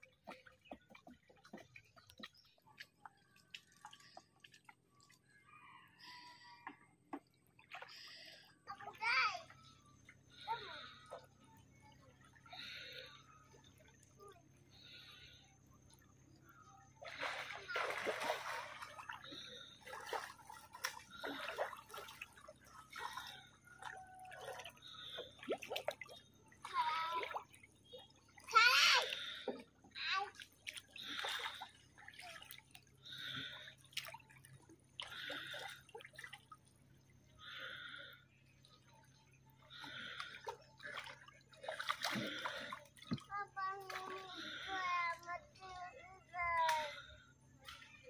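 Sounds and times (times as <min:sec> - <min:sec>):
drips: 0:00.0 - 0:48.0.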